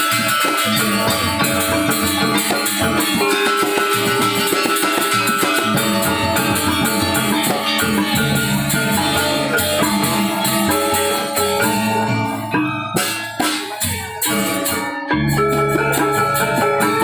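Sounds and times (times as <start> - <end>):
bright metallophone tones: 0.0 - 17.0
drums: 0.0 - 17.0
high shimmering percussion: 0.0 - 17.0.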